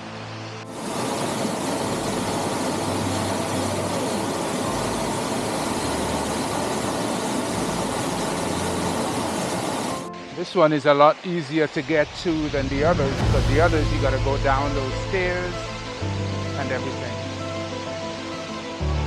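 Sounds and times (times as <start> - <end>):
waterfall roar: 0.0 - 17.4.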